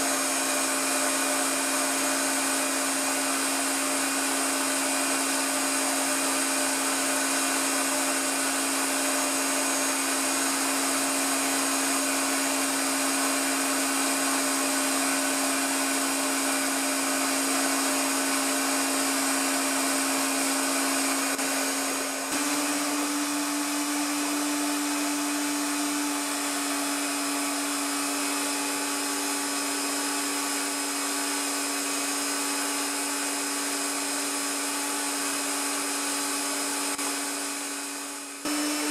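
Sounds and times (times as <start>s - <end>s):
vacuum motor whine: 0.0s - 38.9s.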